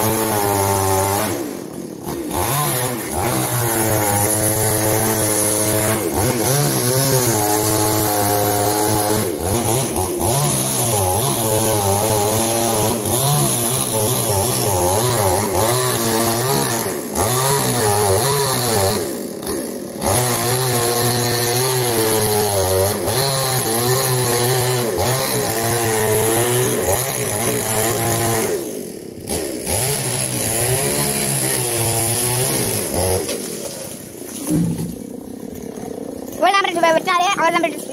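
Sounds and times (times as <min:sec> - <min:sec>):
chainsaw engine running: 0:00.0 - 0:37.9.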